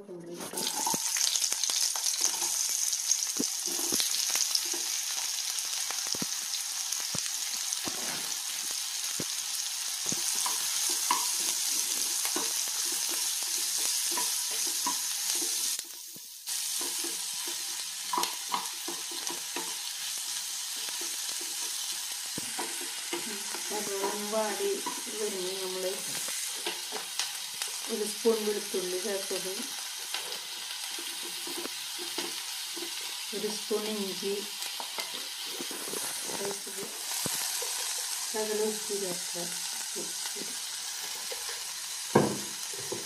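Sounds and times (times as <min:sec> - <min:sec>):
onions sizzling in oil: 0:00.3 - 0:43.0.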